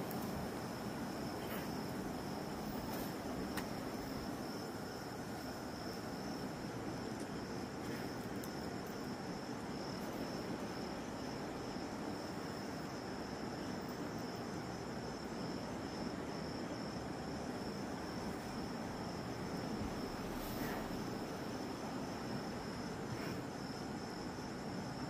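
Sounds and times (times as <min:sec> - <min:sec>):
background hiss: 0:00.0 - 0:25.0
crickets chirring: 0:00.0 - 0:25.0.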